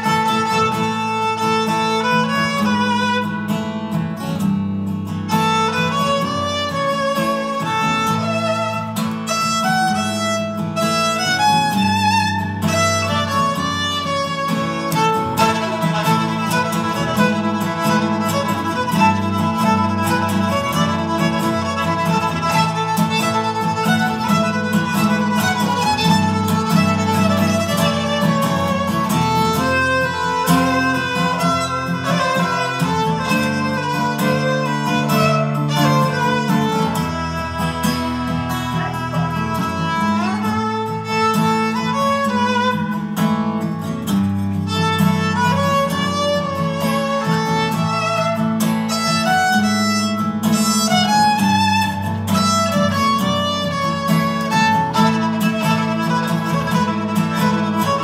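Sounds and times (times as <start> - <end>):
acoustic guitar accompaniment: 0.0 - 58.0
violin melody: 0.0 - 58.0.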